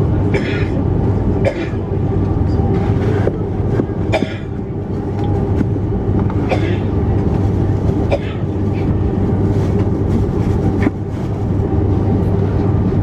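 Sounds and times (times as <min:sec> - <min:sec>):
aircraft cabin rumble and hum: 0:00.0 - 0:13.0.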